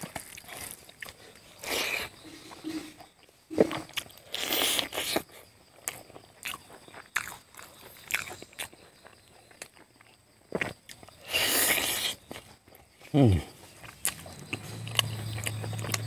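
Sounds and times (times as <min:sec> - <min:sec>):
chewing with wet mouth clicks: 0:00.0 - 0:02.2, 0:03.9 - 0:13.1, 0:13.7 - 0:16.0.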